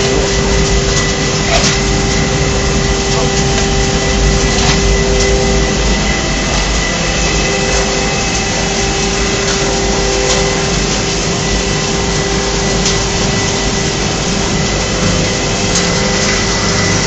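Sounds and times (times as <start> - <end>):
dryer blower rushing: 0.0 - 17.0
steady whining tones: 0.0 - 17.0.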